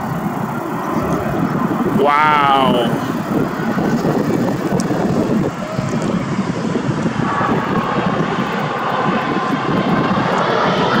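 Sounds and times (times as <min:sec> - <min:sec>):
jet engines rumbling: 0:00.0 - 0:11.0
thin whine: 0:00.0 - 0:11.0.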